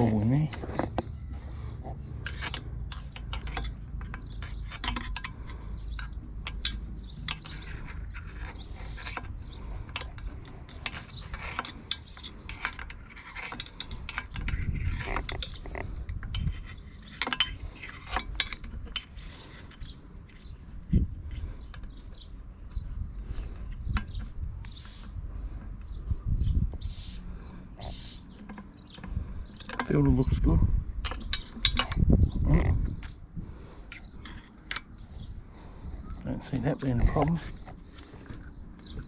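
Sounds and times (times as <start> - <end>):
hand tools clicking and scraping: 0.0 - 26.0, 26.8 - 39.0
steady low hum: 0.0 - 39.0.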